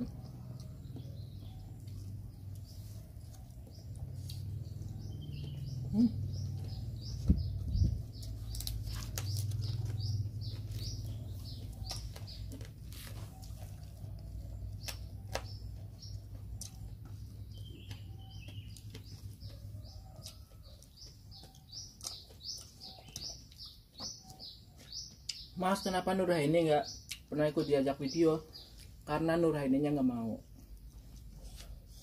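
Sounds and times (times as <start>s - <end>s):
small bird chirping: 0.0s - 29.2s
people eating by hand: 0.0s - 32.0s.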